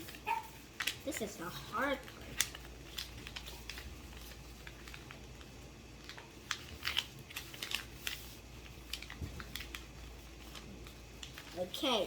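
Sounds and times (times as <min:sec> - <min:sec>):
paper being folded and creased: 0:00.0 - 0:12.0.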